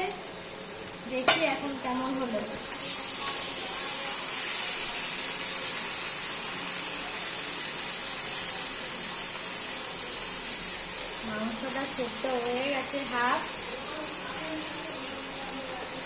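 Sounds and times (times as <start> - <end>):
chicken sizzling in frying pan: 0.0 - 16.0.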